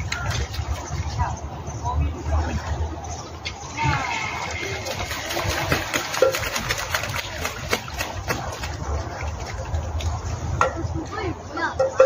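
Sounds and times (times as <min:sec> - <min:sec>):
geese splashing in water: 0:00.0 - 0:11.2
moving water: 0:00.0 - 0:12.0.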